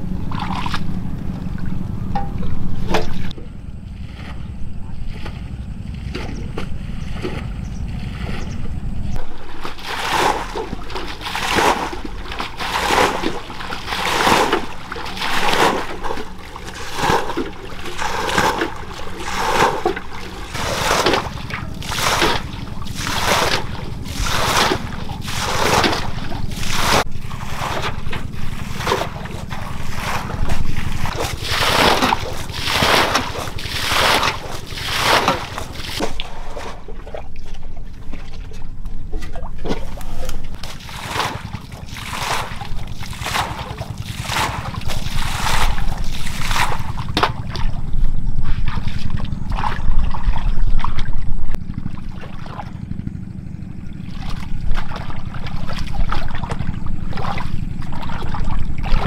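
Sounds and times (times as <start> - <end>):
low hum: 0.0 - 59.0
water splashing rhythmically: 0.0 - 59.0.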